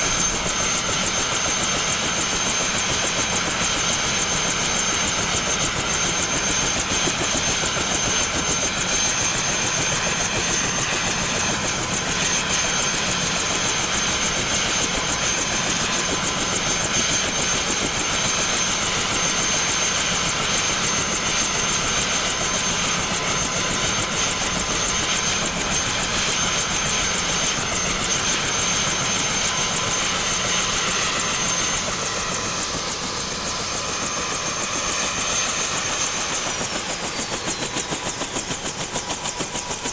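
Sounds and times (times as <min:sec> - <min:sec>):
helicopter idling: 0:00.0 - 0:39.9.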